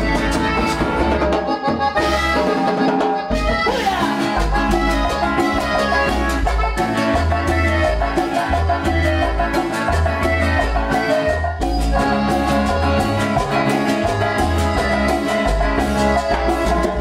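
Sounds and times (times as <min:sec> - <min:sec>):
accordion: 0:00.0 - 0:17.0
bass line: 0:00.0 - 0:17.0
keyboard: 0:00.0 - 0:17.0
percussion with steady beat: 0:00.0 - 0:17.0.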